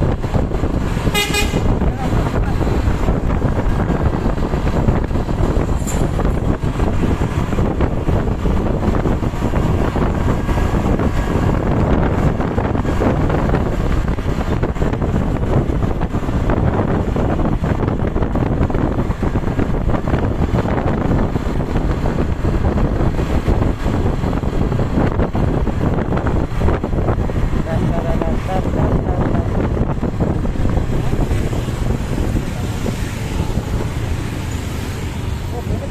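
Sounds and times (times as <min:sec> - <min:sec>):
road traffic rumble: 0:00.0 - 0:35.9
wind buffeting microphone: 0:00.0 - 0:35.9.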